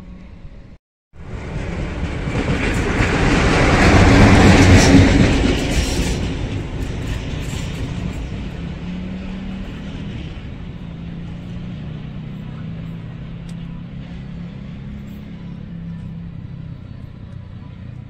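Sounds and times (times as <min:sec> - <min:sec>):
train rumble and engine hum: 0:00.0 - 0:18.0.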